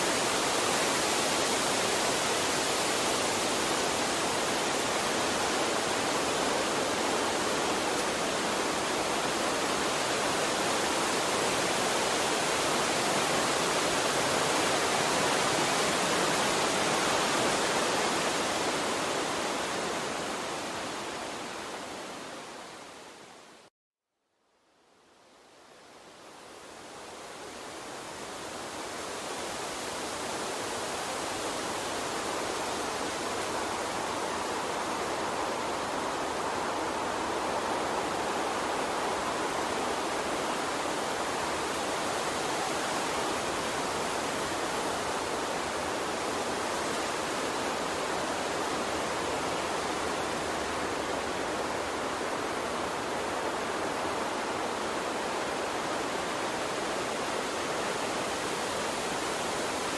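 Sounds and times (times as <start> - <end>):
water stream rushing: 0.0 - 23.7, 25.9 - 59.9.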